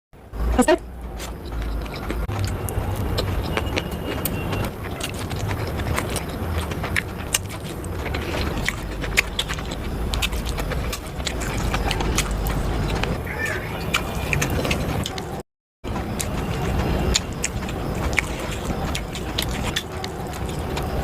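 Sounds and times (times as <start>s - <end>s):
steady low rumble: 0.2s - 21.0s
person chewing food: 1.0s - 13.2s, 13.8s - 15.4s, 16.1s - 21.0s
mouth clicks and smacks: 1.1s - 15.4s, 16.2s - 21.0s.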